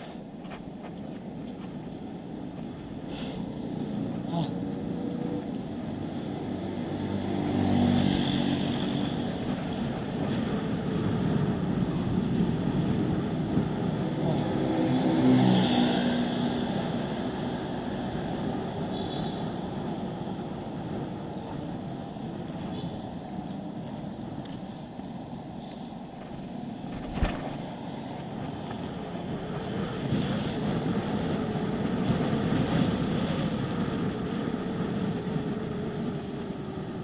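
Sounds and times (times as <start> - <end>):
traffic noise: 0.0 - 37.0
vehicles passing on road: 0.0 - 37.0.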